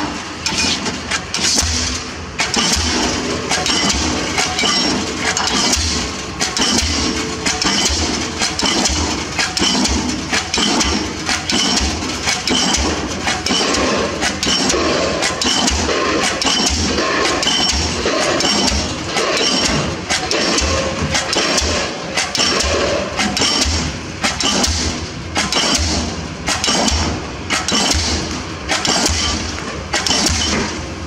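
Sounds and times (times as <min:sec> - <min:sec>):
pile hammer thuds with metallic clank: 0:00.0 - 0:31.0.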